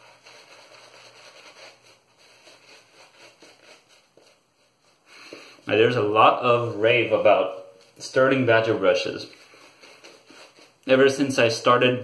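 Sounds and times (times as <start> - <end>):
shaving brush swishing on face: 0.0 - 11.8.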